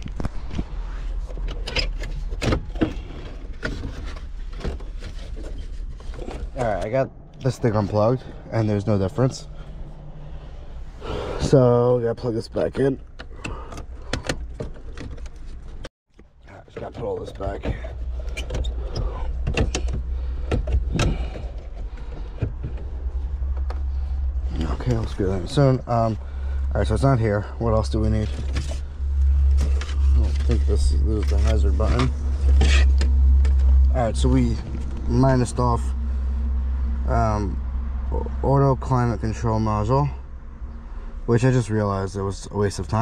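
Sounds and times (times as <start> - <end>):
steady low rumble: 0.0 - 15.9, 16.5 - 43.0
low steady hum: 0.0 - 43.0.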